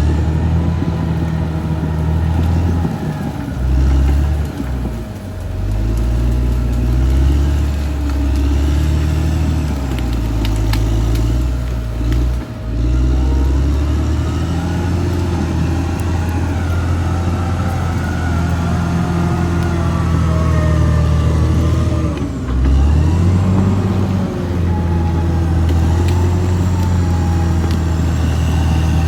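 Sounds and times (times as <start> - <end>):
bulldozer diesel engine working: 0.0 - 29.0.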